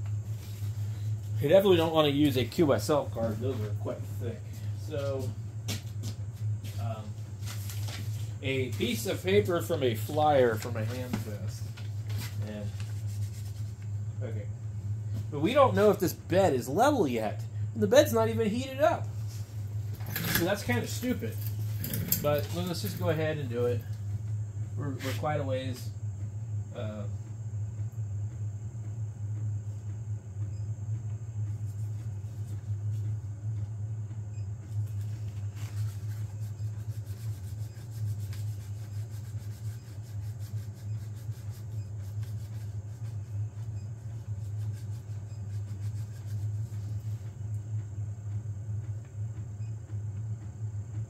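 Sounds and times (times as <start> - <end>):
printer cooling fans humming: 0.0 - 51.0.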